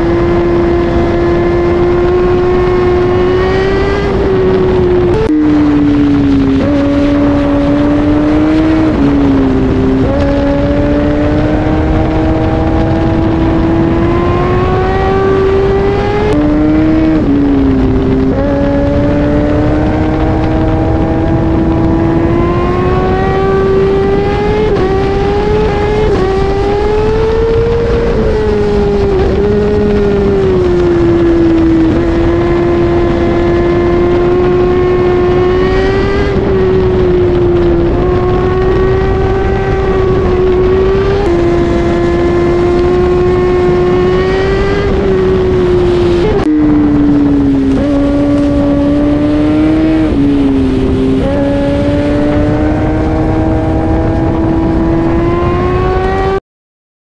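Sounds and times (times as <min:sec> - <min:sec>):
motorcycle engine at high revs: 0:00.0 - 0:56.4
wind and road rush: 0:00.0 - 0:56.4.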